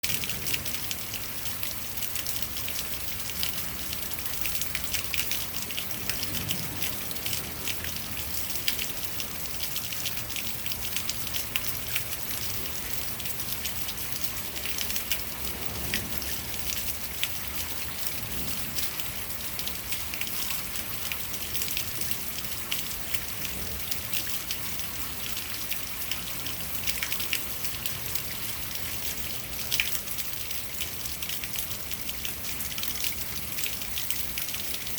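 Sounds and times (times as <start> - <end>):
water dripping and splashing: 0.0 - 34.9
water trickling: 0.0 - 34.9.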